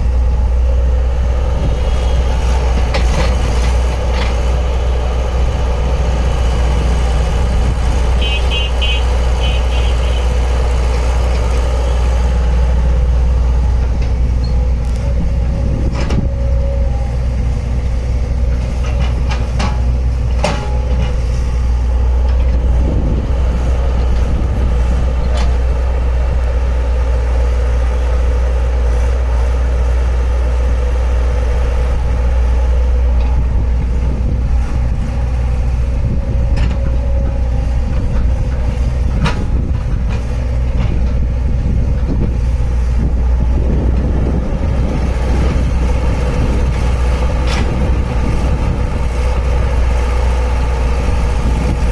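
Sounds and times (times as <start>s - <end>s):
heavy machinery engine humming: 0.0s - 51.9s.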